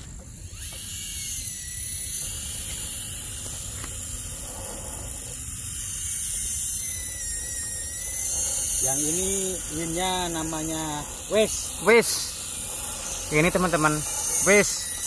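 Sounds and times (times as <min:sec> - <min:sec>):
small electric winch motor whining: 0:00.0 - 0:15.0.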